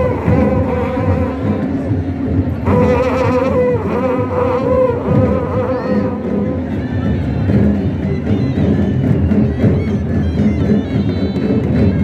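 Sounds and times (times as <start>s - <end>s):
wind instrument wavering melody: 0.0s - 11.9s
crowd din: 0.0s - 12.0s
drumming: 0.0s - 12.0s.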